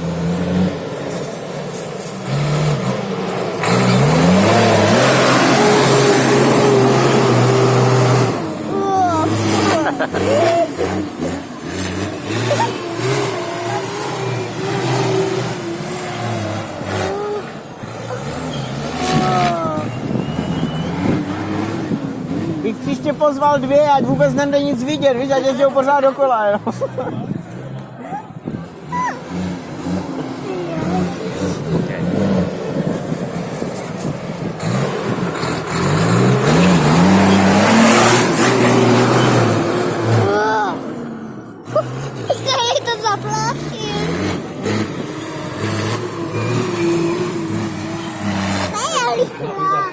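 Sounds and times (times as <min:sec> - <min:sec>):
truck diesel engine running hard: 0:00.0 - 0:23.0, 0:27.6 - 0:49.9.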